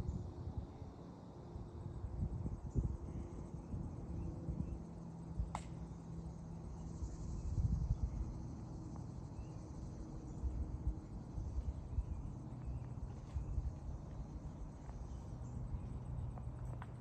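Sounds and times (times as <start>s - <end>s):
faint high insect calling: 0.0s - 17.0s
wind rumble on microphone: 0.0s - 17.0s.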